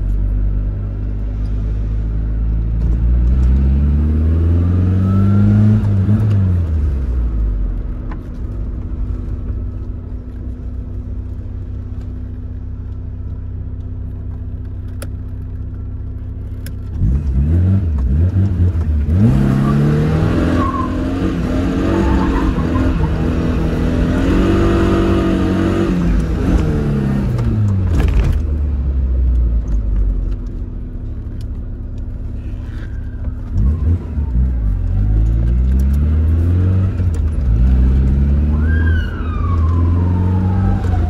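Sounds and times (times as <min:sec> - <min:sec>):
car engine revving and idling: 0:00.0 - 0:41.0.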